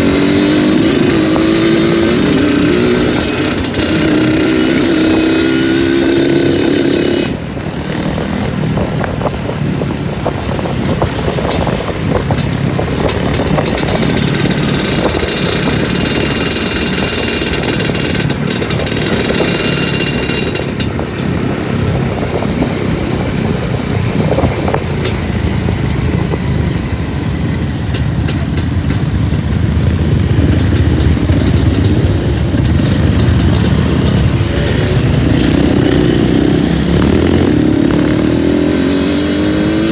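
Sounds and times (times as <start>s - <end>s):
two-stroke motorcycle engine: 0.0s - 39.9s.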